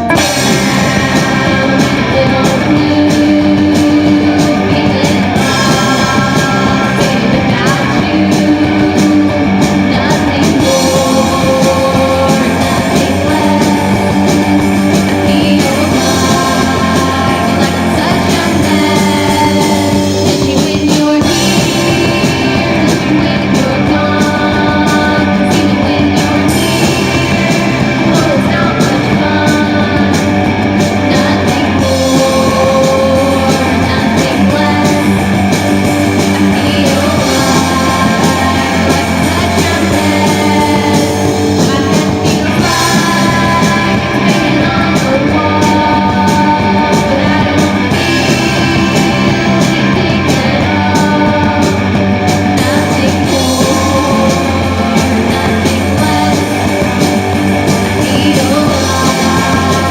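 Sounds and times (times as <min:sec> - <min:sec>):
guitar-led rock song: 0:00.0 - 0:59.9.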